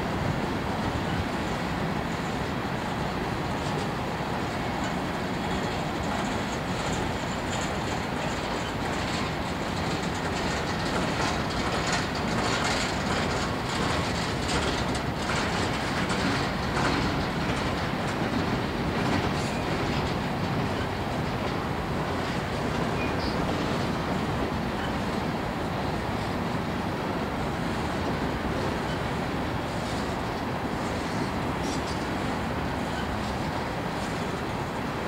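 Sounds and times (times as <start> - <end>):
train wheels clicking on rails: 0.0 - 35.0.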